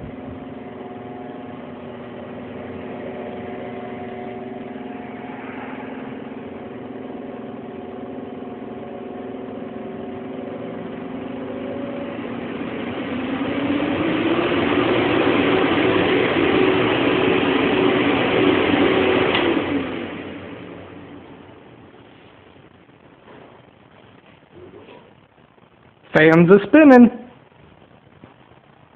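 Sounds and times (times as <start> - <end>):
blower fans humming: 0.0 - 28.8.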